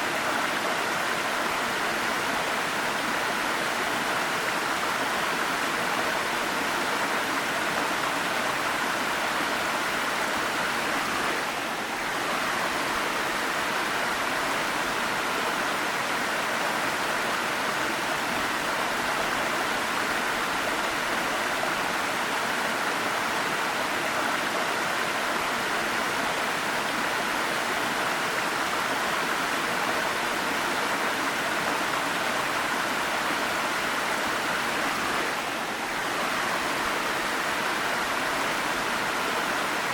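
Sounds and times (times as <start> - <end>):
waterfall rushing water: 0.0 - 39.9.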